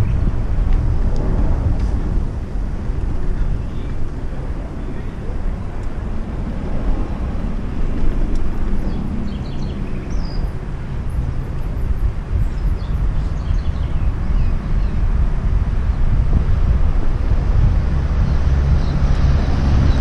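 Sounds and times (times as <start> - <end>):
bicycle tyre noise: 0.0 - 20.0
wind rumble on microphone: 0.0 - 20.0.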